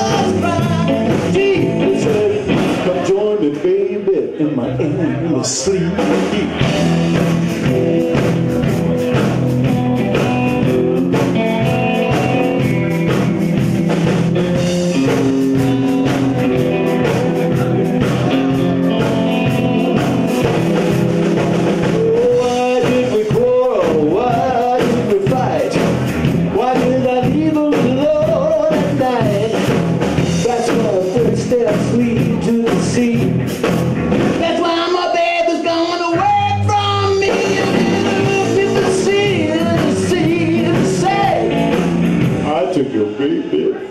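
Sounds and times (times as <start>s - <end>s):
electric guitar lead: 0.0s - 43.9s
rock band playing: 0.0s - 43.9s.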